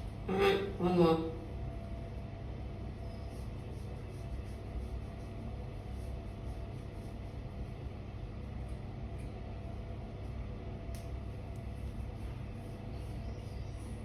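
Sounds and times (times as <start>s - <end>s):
low background rumble and hum: 0.0s - 14.0s.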